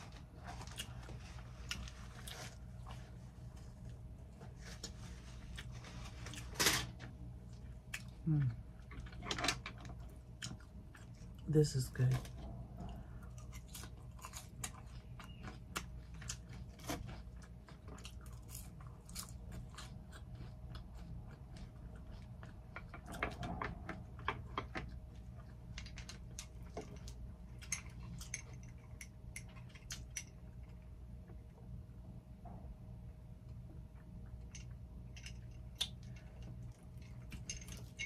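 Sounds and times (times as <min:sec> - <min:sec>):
chewing and biting food: 0:00.0 - 0:06.5, 0:07.1 - 0:31.5
faint steady hum: 0:00.0 - 0:38.0.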